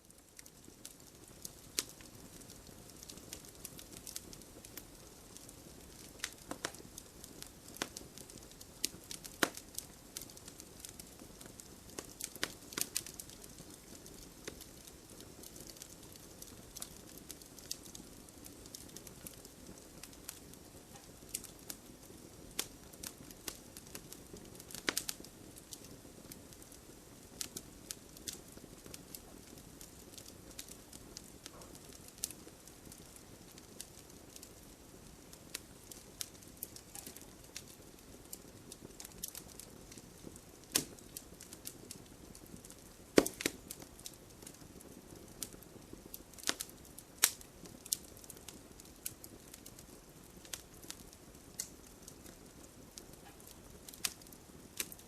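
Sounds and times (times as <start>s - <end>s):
burning logs crackling and popping: 0.0s - 55.0s
campfire hissing: 0.1s - 55.0s.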